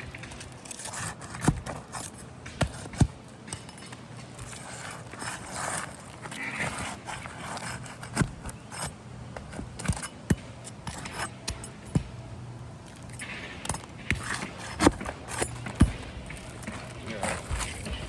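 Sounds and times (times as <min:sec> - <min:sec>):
roof shingles being pried up: 0:00.0 - 0:18.0
shingles scraping: 0:00.0 - 0:18.0.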